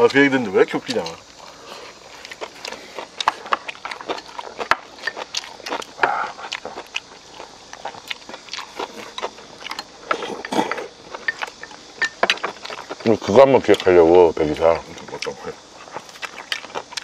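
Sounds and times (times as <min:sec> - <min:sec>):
chewing and lip smacking: 0:00.9 - 0:13.9, 0:14.9 - 0:17.0.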